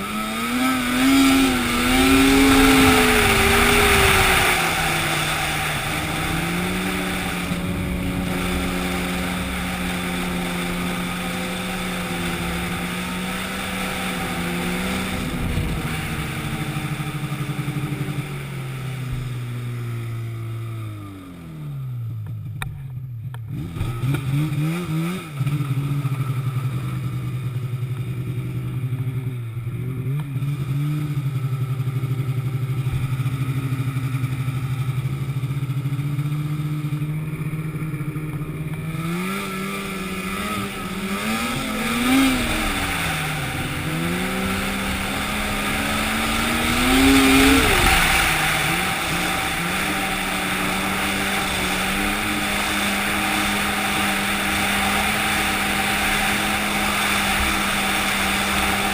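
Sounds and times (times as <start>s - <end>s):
engine revving: 0.0s - 58.9s.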